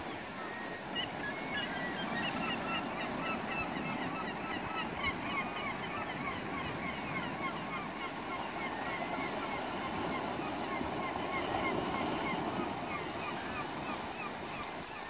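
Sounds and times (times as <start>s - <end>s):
seabirds calling: 0.0s - 15.0s
wind: 0.0s - 15.0s.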